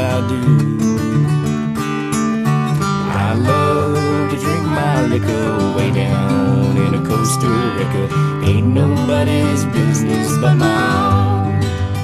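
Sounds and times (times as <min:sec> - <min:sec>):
person singing: 0:00.0 - 0:01.0, 0:03.1 - 0:12.0
acoustic guitars strumming: 0:00.0 - 0:12.0.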